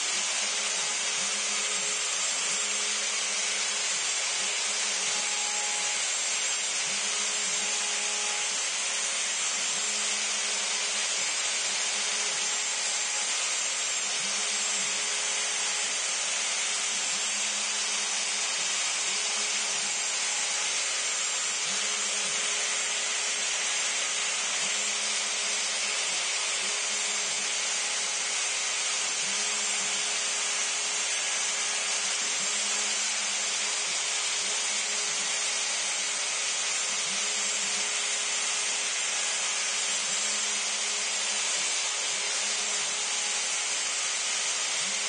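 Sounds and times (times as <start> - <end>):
router cutting wood: 0.0 - 45.0.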